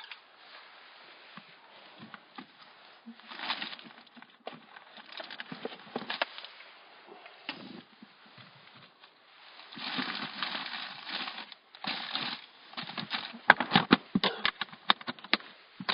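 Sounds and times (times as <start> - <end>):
rustling: 0.0 - 15.9.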